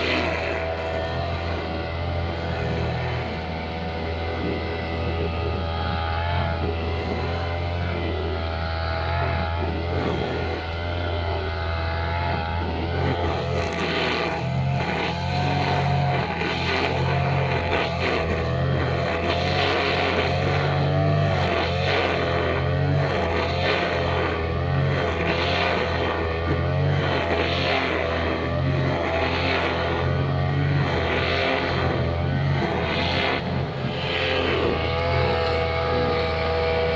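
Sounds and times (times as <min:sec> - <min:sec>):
brushcutter engine at high revs: 0:00.0 - 0:36.9.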